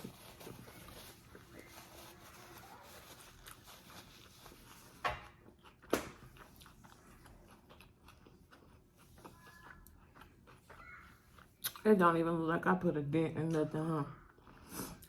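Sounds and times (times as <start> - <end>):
person chewing food: 0.0 - 12.0, 14.1 - 15.0.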